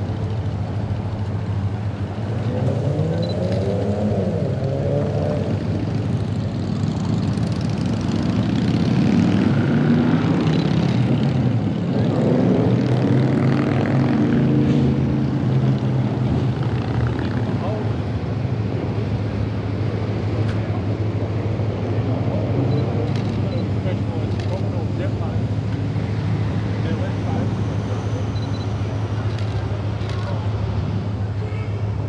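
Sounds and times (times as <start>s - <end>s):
engine running with low hum: 0.0s - 32.0s.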